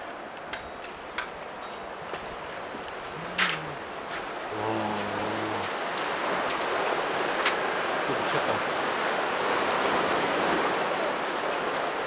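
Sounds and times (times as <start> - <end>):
waves breaking on rocky shore: 0.0 - 12.0.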